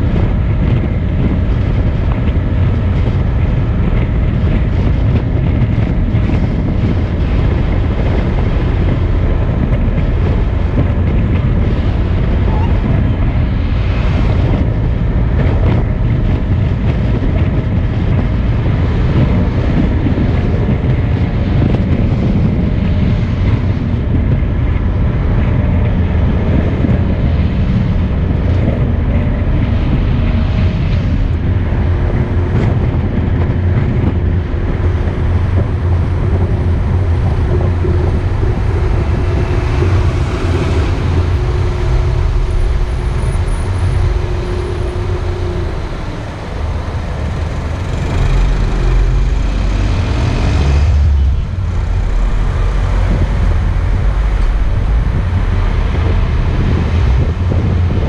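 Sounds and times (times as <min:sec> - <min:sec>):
car engine and tyre rumble: 0:00.0 - 0:58.0
wind noise: 0:00.0 - 0:58.0.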